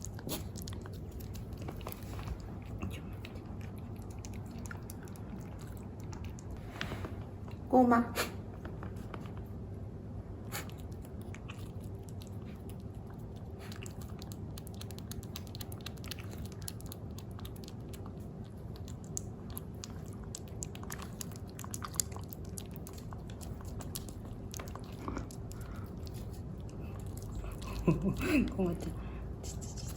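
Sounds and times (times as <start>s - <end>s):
kitten licking wet clicks: 0.0s - 6.6s, 10.5s - 29.9s.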